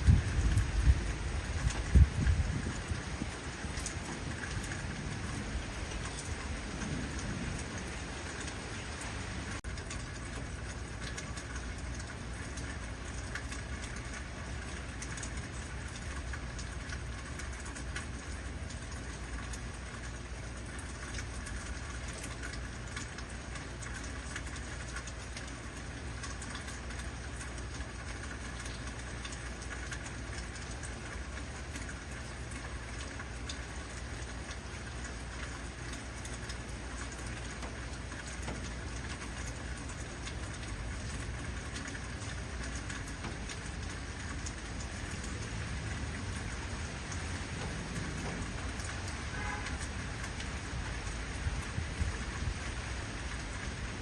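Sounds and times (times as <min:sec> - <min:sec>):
heavy rain patter: 0:00.0 - 0:54.0.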